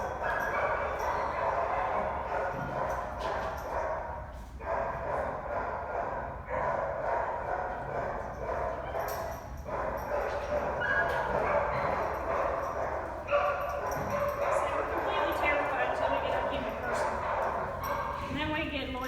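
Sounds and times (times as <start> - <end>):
dogs barking and yipping: 0.0 - 19.0.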